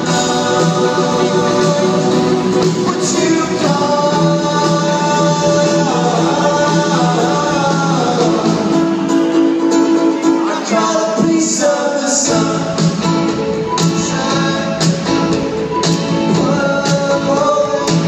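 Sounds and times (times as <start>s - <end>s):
live rock band playing: 0.0s - 18.0s
person singing: 0.0s - 18.0s.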